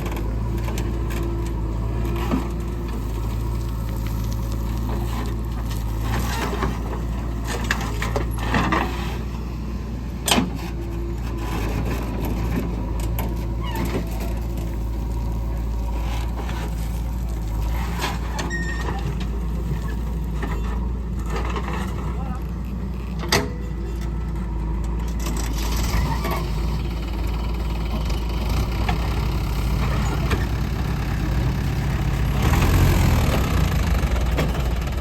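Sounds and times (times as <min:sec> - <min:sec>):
diesel machinery droning: 0:00.0 - 0:35.0.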